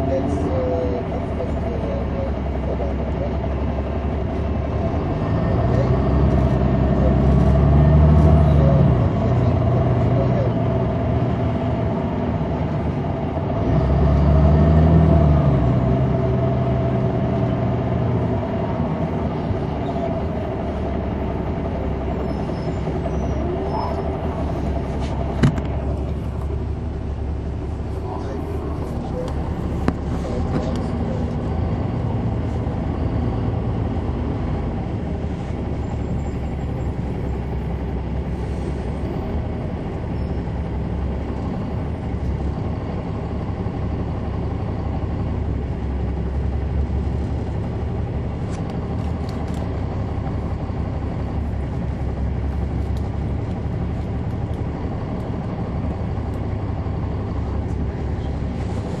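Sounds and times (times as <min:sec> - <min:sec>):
bus diesel engine humming: 0:00.0 - 0:59.0.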